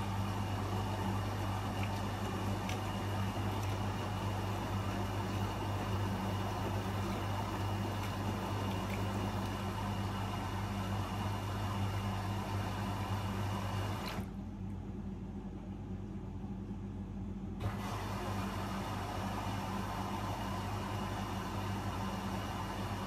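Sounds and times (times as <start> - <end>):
water rushing into washing machine: 0.0 - 14.4, 17.6 - 23.0
washing machine low hum: 0.0 - 23.0.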